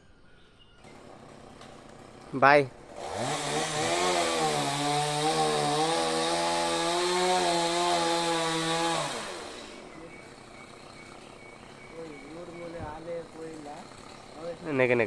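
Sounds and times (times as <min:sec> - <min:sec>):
chainsaw cutting wood: 0:00.8 - 0:15.0.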